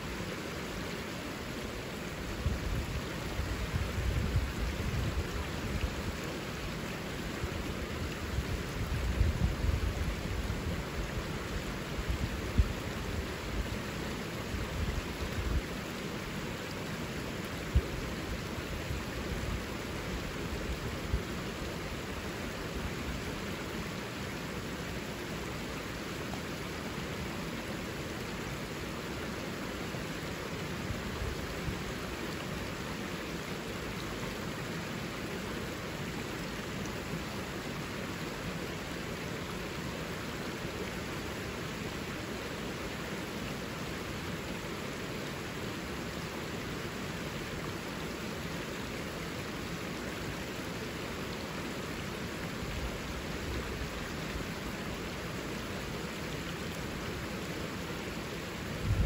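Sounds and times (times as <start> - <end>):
river rushing over rapids: 0.0 - 59.0.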